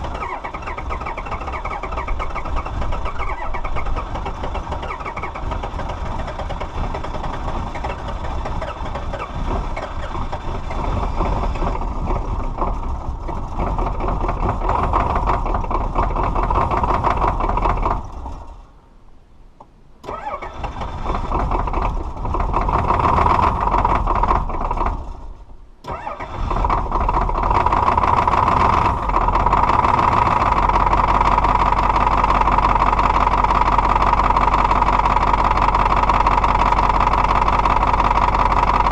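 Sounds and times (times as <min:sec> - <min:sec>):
diesel engine starting and running: 0:00.0 - 0:19.0, 0:19.9 - 0:38.9.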